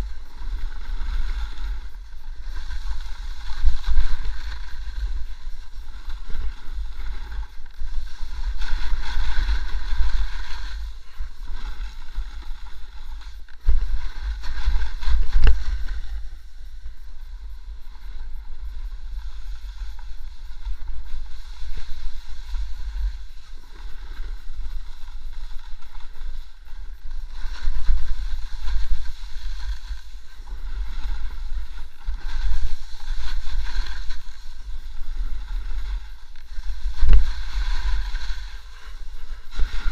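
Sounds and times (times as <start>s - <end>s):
edges scraping over snow: 0.0s - 16.4s, 18.9s - 39.9s
wind rumbling on microphone: 0.0s - 39.9s.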